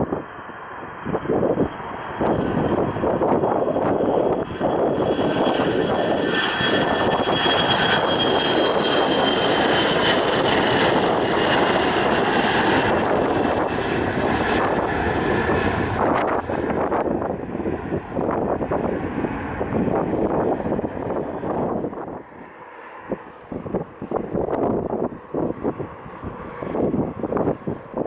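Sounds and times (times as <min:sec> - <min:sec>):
airliner engines passing: 0:00.0 - 0:28.0
high engine whine: 0:00.0 - 0:28.0.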